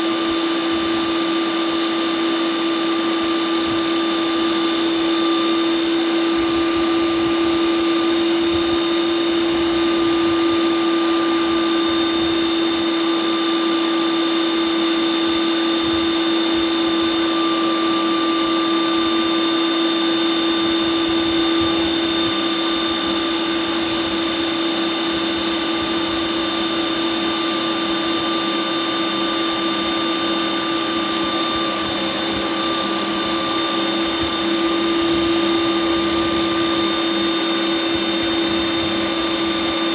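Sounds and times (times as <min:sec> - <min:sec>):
ice cream maker motor humming: 0:00.0 - 0:39.9.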